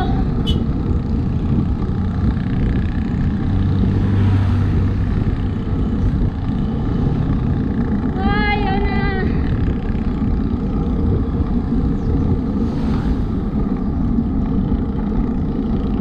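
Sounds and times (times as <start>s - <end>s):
low vehicle engine hum: 0.0s - 16.0s
wind rushing over microphone: 0.0s - 16.0s.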